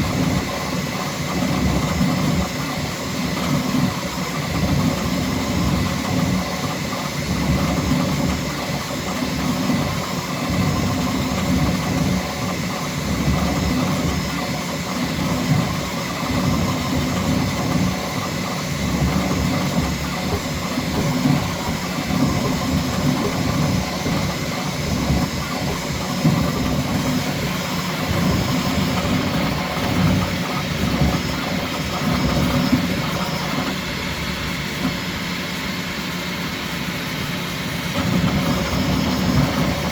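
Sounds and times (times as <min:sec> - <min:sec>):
printer motors buzzing in bursts: 0:00.0 - 0:35.7.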